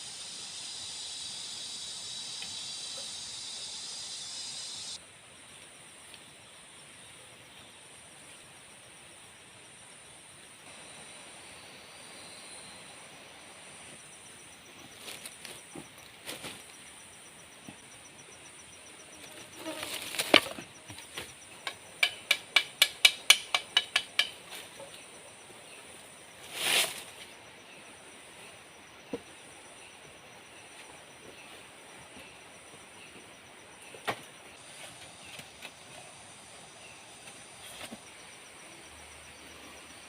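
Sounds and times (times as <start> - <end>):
insects trilling: 0.0 - 40.0.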